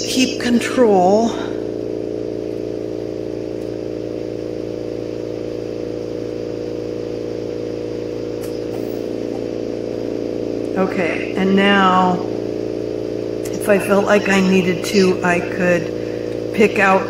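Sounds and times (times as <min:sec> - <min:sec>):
torch machine hum: 0:00.0 - 0:17.0.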